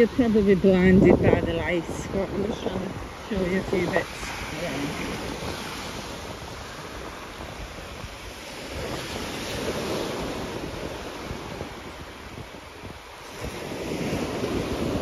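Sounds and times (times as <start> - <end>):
small waves breaking on beach: 0.0 - 15.0
wind rumbling on microphone: 0.0 - 15.0.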